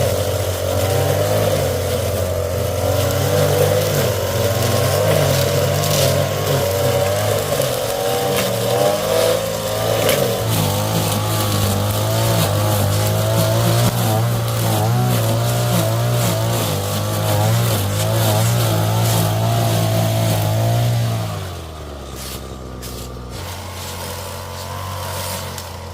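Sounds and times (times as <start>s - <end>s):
engine running: 0.0s - 25.9s.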